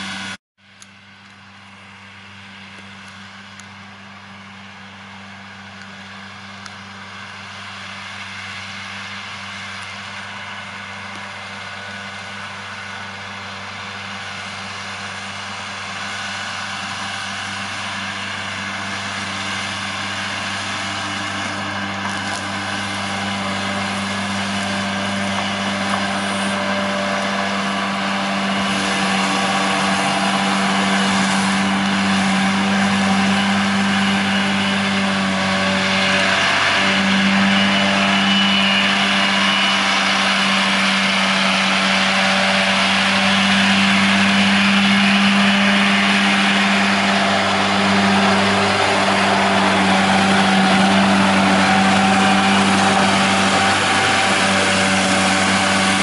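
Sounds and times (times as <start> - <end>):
disc mower cutting grass: 0.0 - 56.0
tractor engine under load: 0.0 - 56.0.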